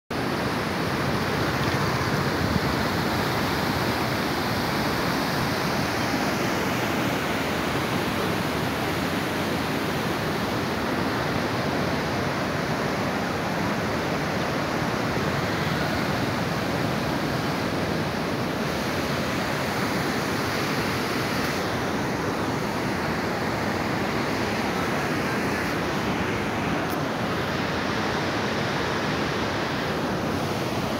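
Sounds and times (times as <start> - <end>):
water rushing over a fall: 0.1 - 30.9.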